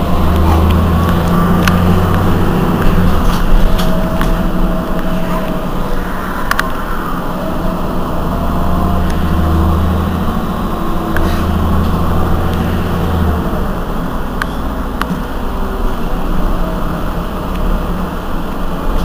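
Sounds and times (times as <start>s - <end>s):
bus engine idling: 0.0s - 19.0s
deeper engine drone: 0.0s - 19.0s.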